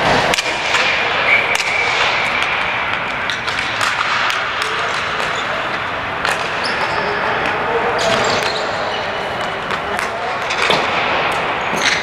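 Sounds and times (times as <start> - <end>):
background noise: 0.0 - 12.0
sticks and ball clacking: 0.1 - 12.0.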